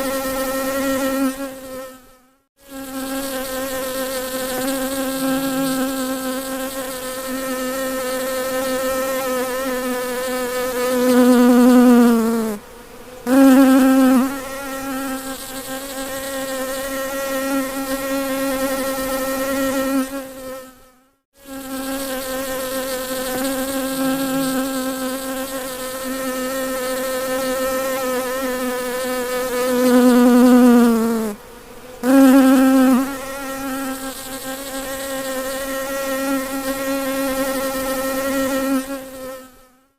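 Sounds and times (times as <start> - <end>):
bumblebee buzzing: 0.0 - 39.8.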